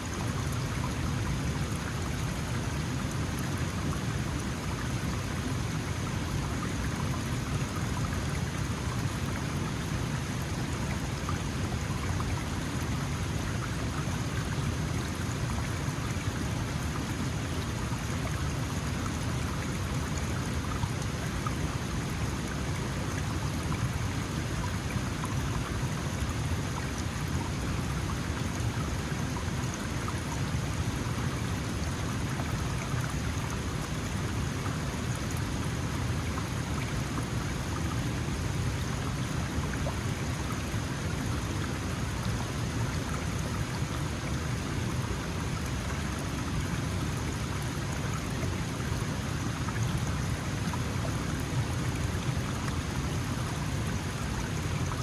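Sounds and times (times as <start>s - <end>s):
stream flowing over stones: 0.0s - 55.0s.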